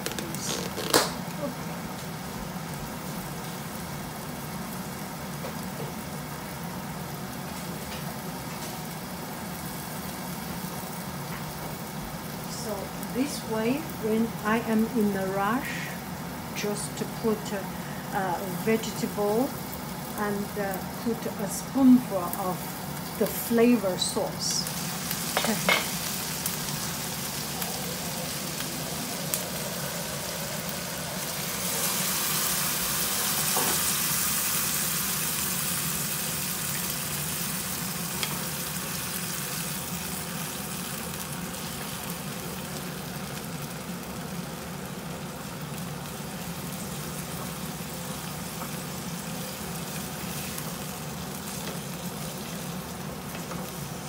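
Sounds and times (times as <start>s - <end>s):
food sizzling in a wok: 0.0s - 54.0s.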